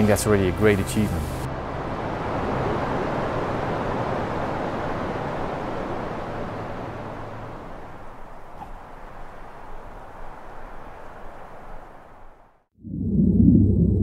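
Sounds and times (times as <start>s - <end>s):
aircraft rushing noise in flight: 0.0s - 14.0s.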